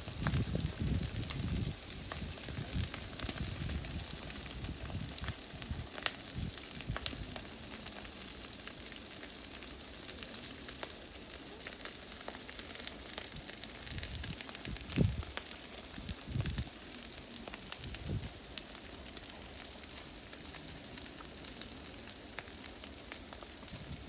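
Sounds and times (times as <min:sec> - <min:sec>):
fire hissing and crackling: 0:00.0 - 0:24.0.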